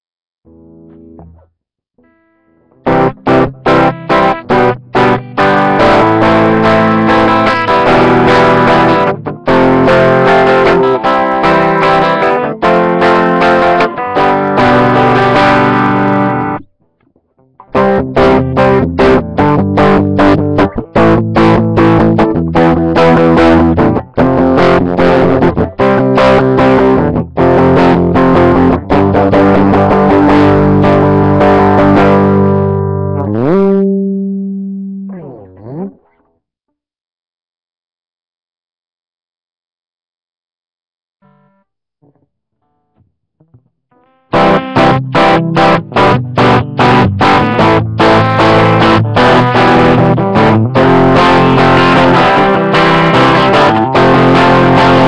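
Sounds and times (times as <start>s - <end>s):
distorted electric guitar chords: 0.5s - 16.8s, 17.4s - 36.4s, 43.4s - 55.0s.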